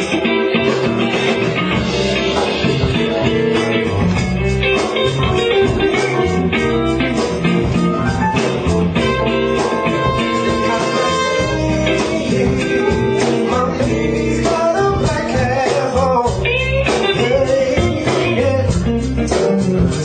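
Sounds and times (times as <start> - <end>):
blues music with electric guitar: 0.0 - 20.0.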